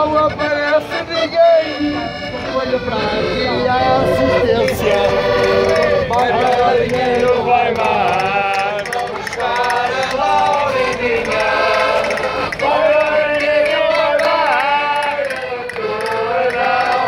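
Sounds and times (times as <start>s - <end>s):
accordion: 0.0s - 17.0s
men singing in unison: 0.0s - 17.0s.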